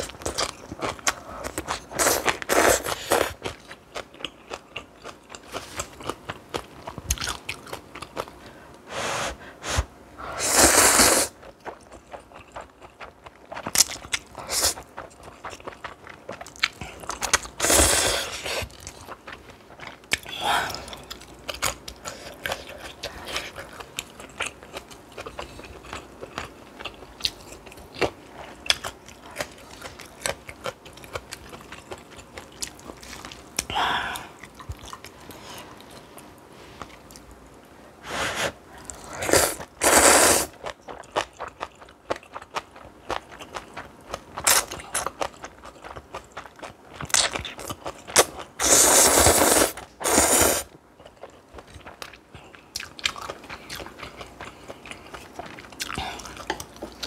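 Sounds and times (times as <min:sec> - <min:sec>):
chewing and crunching: 0:00.0 - 0:08.4, 0:11.4 - 0:17.6, 0:18.2 - 0:37.3, 0:40.6 - 0:48.6, 0:50.9 - 0:57.0.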